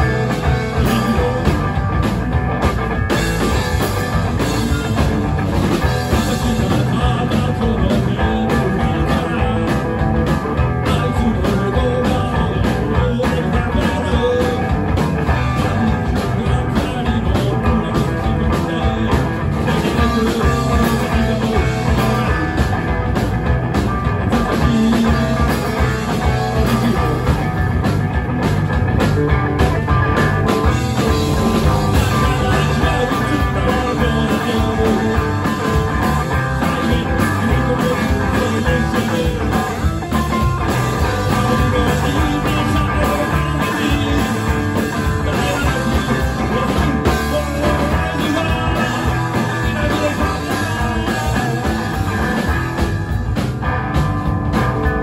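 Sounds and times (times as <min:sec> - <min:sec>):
rock music with guitar: 0:00.0 - 0:55.0.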